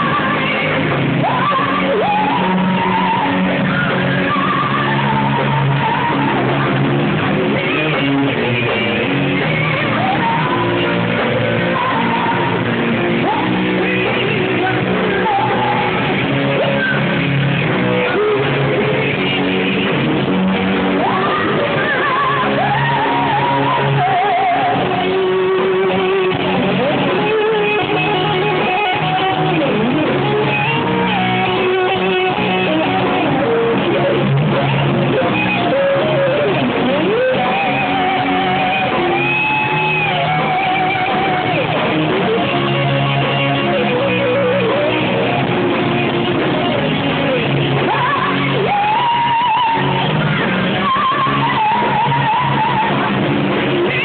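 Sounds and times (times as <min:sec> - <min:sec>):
electric guitar bending melody: 0:00.0 - 0:54.0
live band playing rock ballad: 0:00.0 - 0:54.0.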